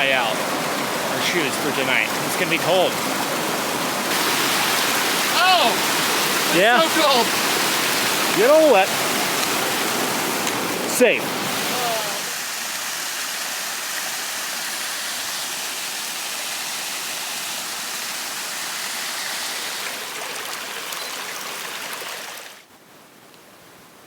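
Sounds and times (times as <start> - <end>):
mountain creek rushing: 0.0 - 22.7.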